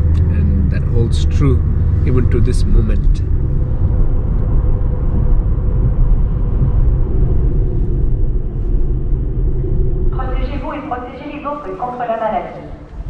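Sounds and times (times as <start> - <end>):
road and engine rumble in car: 0.0 - 10.6
faint steady hum: 0.0 - 13.0.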